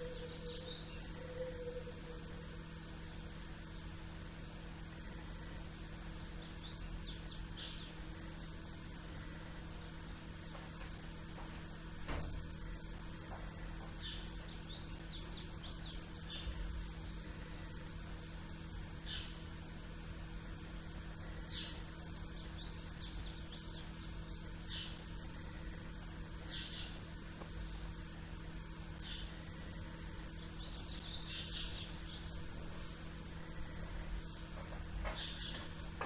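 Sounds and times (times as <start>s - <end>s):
small birds chirping: 0.0s - 12.0s, 12.7s - 36.0s
steady low hum: 0.0s - 36.0s.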